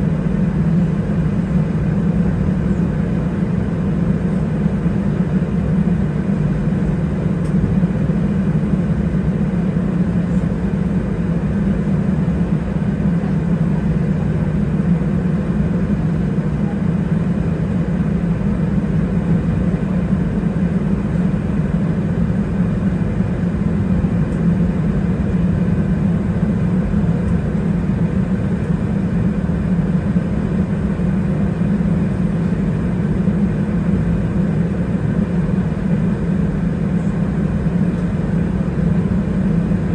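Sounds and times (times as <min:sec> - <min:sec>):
aircraft engines idling rumble: 0:00.0 - 0:39.9.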